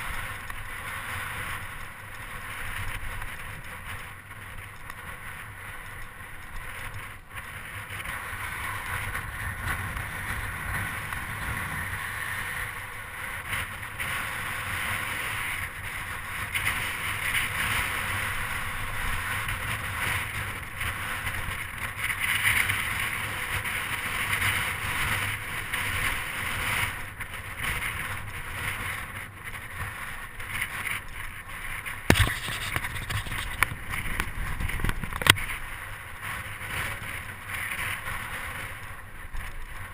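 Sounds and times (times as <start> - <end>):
tyre and road rumble: 0.0 - 39.9
wind rushing over microphone: 0.0 - 39.9.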